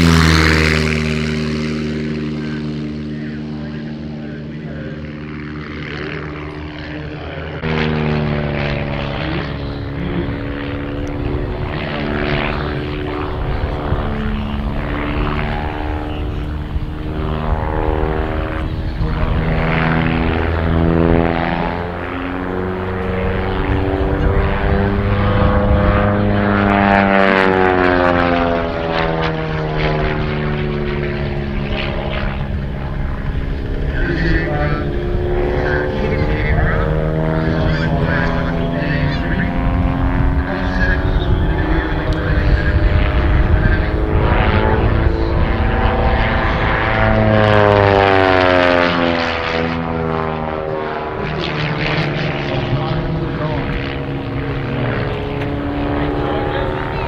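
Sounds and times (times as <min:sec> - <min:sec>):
propeller plane engine: 0:00.0 - 0:57.0.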